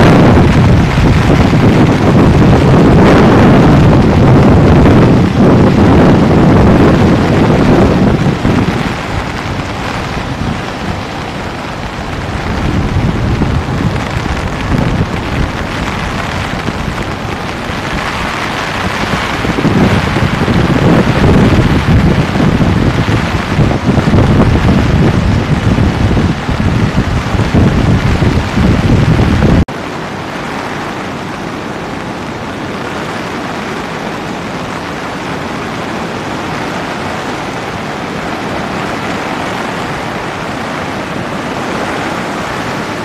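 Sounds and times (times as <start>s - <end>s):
flooded river rushing: 0.0s - 43.0s
wind buffeting microphone: 0.0s - 43.0s.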